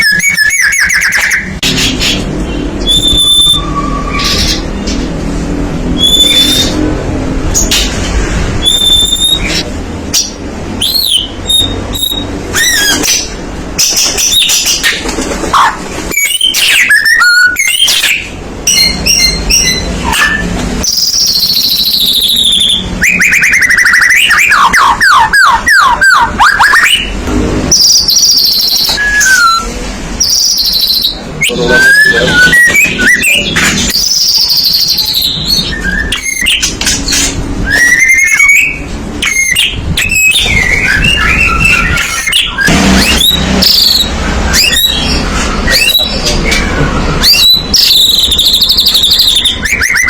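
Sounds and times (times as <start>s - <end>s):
songbird singing whistles and trills: 0.0s - 1.6s, 2.5s - 4.9s, 6.0s - 6.9s, 8.6s - 14.9s, 16.1s - 36.7s, 37.6s - 50.0s.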